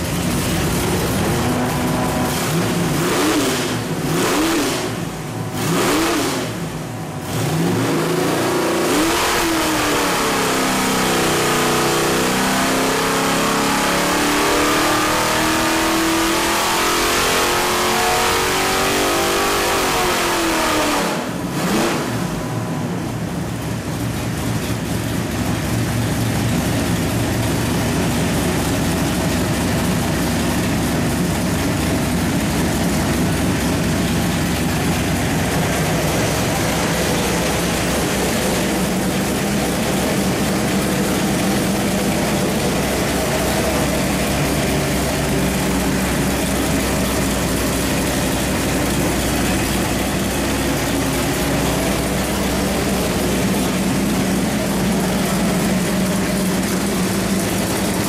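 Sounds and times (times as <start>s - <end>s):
engine revving and idling: 0.0s - 58.0s.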